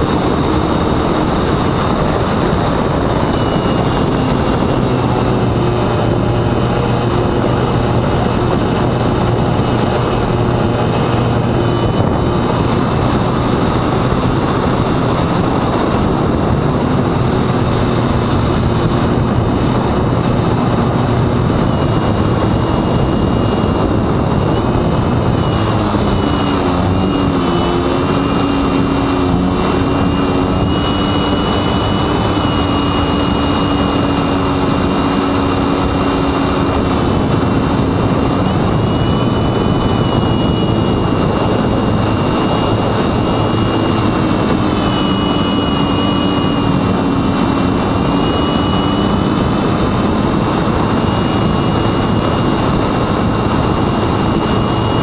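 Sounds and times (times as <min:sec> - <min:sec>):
electric motor buzzing whine: 0:00.0 - 0:55.0
wind noise rushing: 0:00.0 - 0:55.0.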